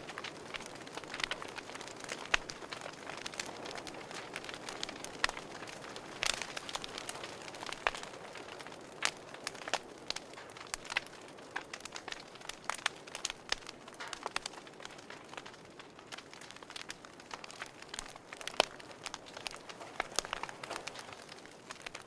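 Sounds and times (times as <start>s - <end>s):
soft steady hiss: 0.0s - 22.0s
wood fire crackling and popping: 0.0s - 22.0s.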